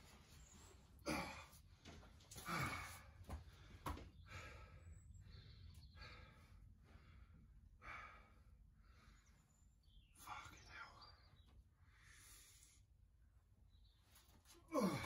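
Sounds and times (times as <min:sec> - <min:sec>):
man breathing heavily and sighing: 0:00.1 - 0:13.0, 0:14.5 - 0:15.0.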